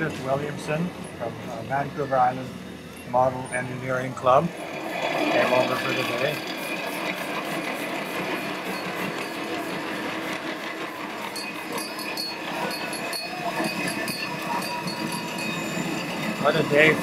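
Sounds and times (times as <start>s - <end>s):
miniature train wheels on rails: 0.0s - 17.0s.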